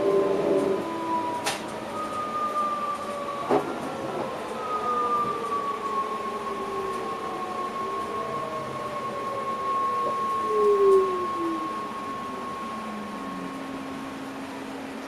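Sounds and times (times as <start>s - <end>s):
electric train traction whine: 0.0s - 15.0s
train running noise: 0.0s - 15.0s.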